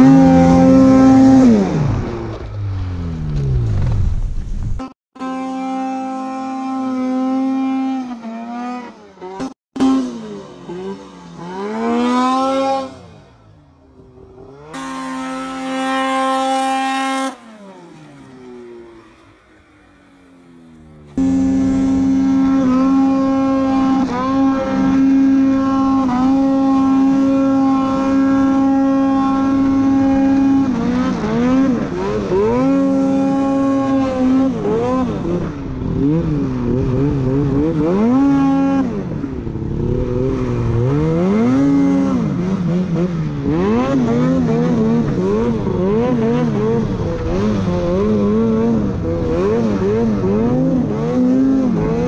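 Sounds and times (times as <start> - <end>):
snowmobile engine revving: 0.0 - 3.7, 4.8 - 52.0.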